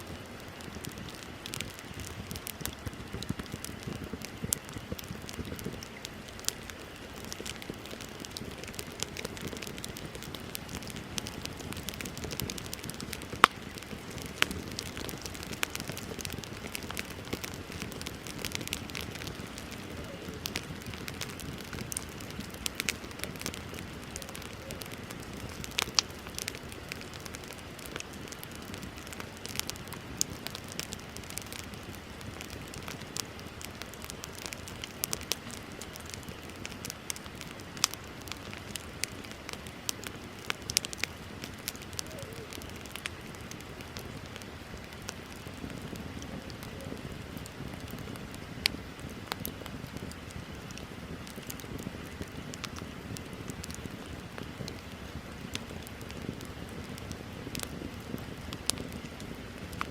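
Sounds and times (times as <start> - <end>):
burning wood crackling and popping: 0.0 - 59.9
rush of bonfire flames: 0.0 - 59.9.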